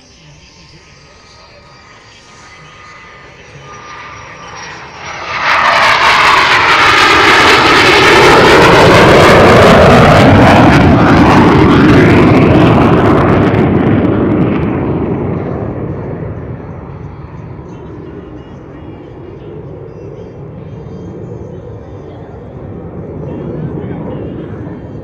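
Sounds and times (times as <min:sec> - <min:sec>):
jet engine whine: 0:00.0 - 0:25.0
loud jet roar passing by: 0:00.0 - 0:25.0.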